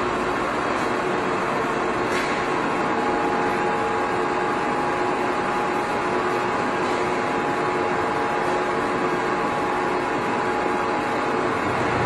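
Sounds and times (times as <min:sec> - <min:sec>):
lathe mechanical hum and whir: 0:00.0 - 0:12.0.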